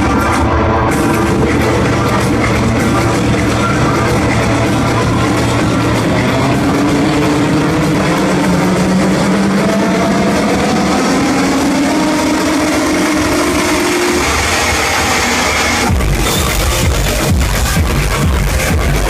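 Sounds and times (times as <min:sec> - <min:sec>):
electronic dance music: 0:00.0 - 0:19.0.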